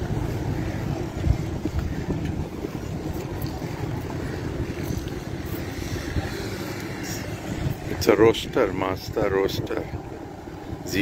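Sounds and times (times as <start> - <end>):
slow-moving cars rumbling: 0.0 - 11.0
wind buffeting microphone: 0.0 - 11.0.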